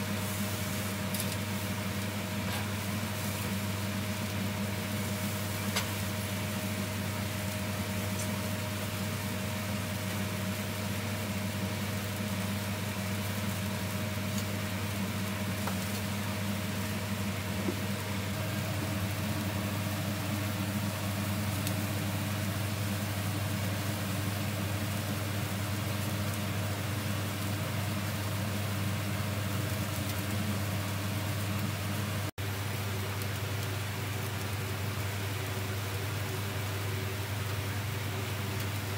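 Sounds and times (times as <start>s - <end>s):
grill burners humming and hissing: 0.0s - 38.9s.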